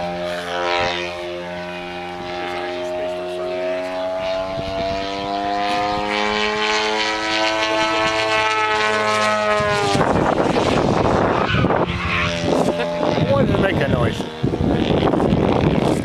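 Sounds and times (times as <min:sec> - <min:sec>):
model airplane howl: 0:00.0 - 0:16.0
rough rushing noise: 0:00.8 - 0:16.0.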